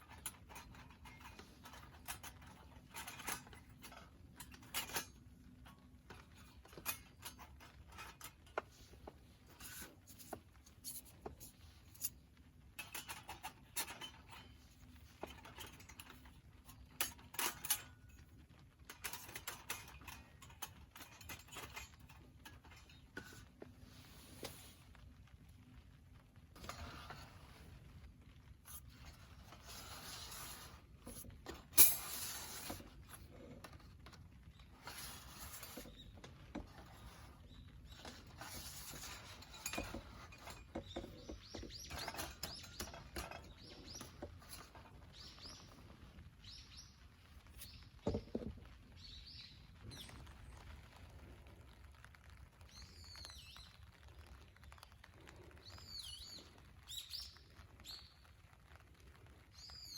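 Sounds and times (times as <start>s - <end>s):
clicks and rustles: 0.0s - 59.9s.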